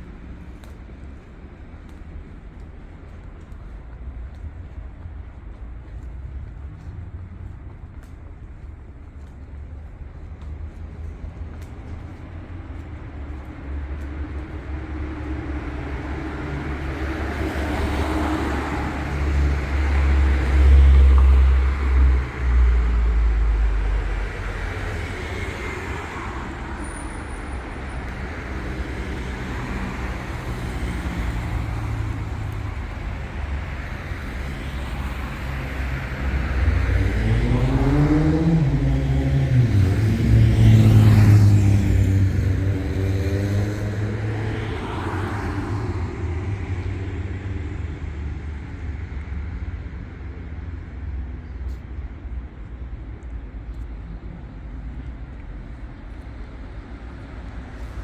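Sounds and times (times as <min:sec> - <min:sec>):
deep traffic rumble: 0:00.0 - 0:58.0
vehicles passing: 0:00.0 - 0:58.0.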